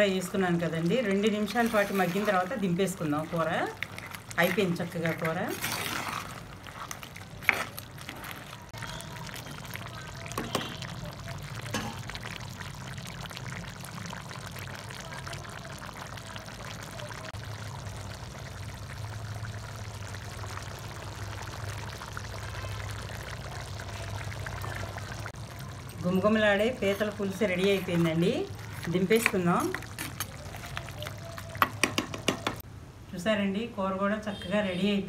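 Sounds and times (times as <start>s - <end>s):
curry bubbling in a pot: 0.0s - 32.6s.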